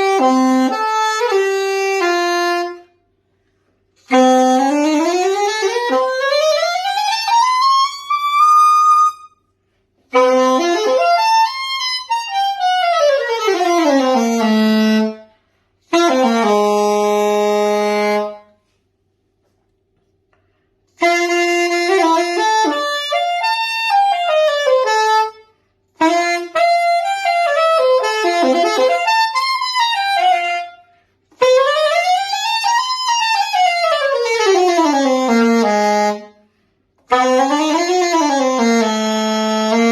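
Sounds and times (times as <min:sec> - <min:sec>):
soprano saxophone playing runs: 0:00.0 - 0:03.0, 0:04.0 - 0:09.4, 0:10.0 - 0:18.7, 0:20.9 - 0:36.4, 0:37.0 - 0:39.9.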